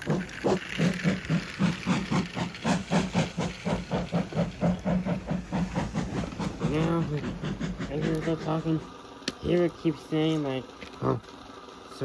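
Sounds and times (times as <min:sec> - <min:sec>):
steam train chugging: 0:00.0 - 0:10.1.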